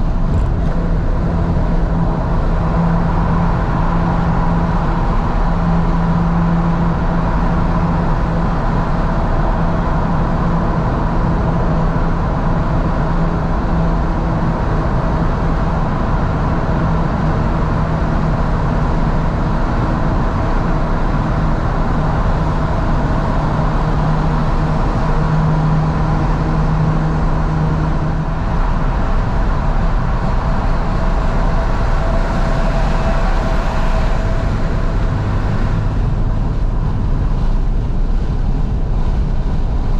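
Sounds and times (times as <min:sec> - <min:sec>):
car engine cruising: 0:00.0 - 0:39.9
road and wind noise: 0:00.0 - 0:39.9.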